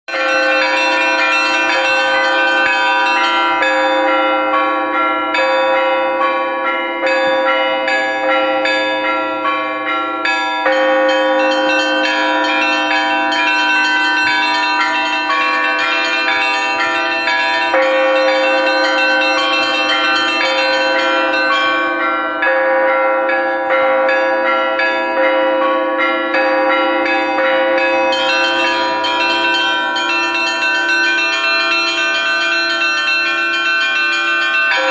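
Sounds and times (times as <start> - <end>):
church bells pealing: 0.1 - 34.9
hum of large bells: 0.1 - 34.9.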